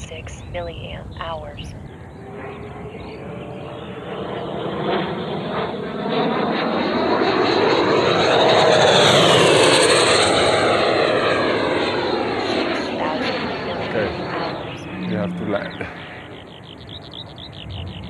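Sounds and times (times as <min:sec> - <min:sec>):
electric ducted fan whine: 0:00.0 - 0:18.0.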